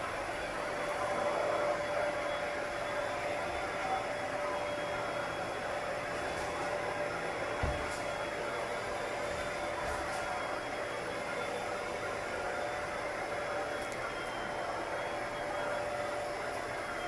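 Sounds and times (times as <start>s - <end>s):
vacuum cleaner whirring: 0.0s - 17.0s.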